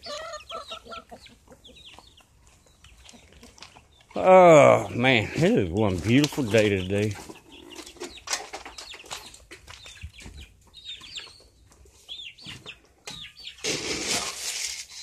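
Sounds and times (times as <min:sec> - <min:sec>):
chickens clucking: 0:00.0 - 0:14.7.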